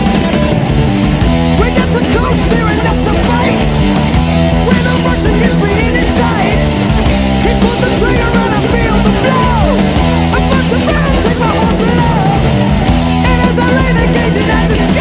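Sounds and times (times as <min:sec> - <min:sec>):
rock music with distorted guitars: 0:00.0 - 0:15.0
person singing: 0:01.6 - 0:12.5, 0:13.2 - 0:15.0.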